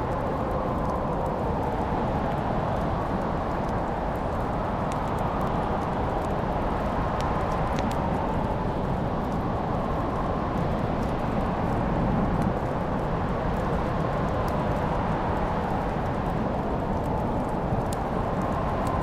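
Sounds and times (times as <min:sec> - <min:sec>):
wood fire pops and snaps: 0:00.0 - 0:19.0.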